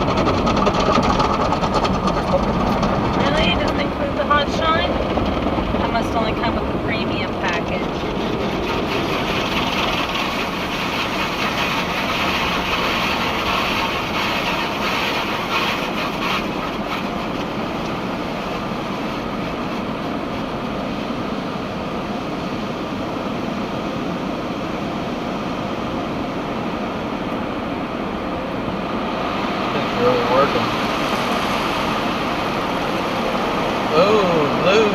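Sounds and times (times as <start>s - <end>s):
car wash rushing and rumbling: 0.0s - 34.9s.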